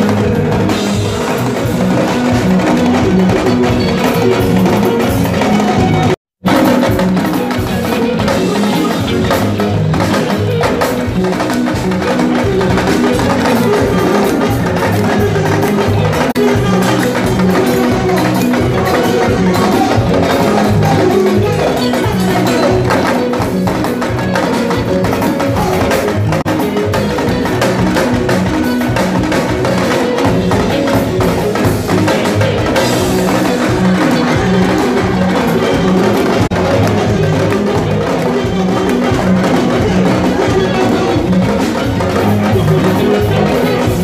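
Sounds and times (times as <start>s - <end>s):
busy drum percussion: 0.0s - 44.0s
live band music: 0.0s - 44.0s.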